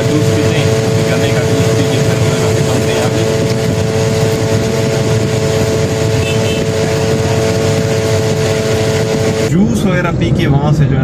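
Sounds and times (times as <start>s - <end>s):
dense rushing noise: 0.0s - 11.0s.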